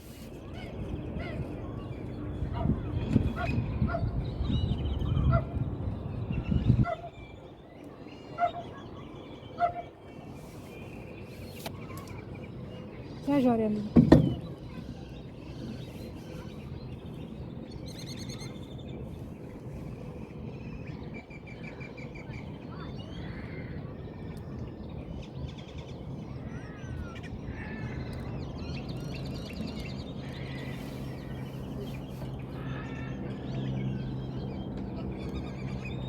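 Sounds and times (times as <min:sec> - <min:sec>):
birds chirping and calling: 0:00.4 - 0:36.0.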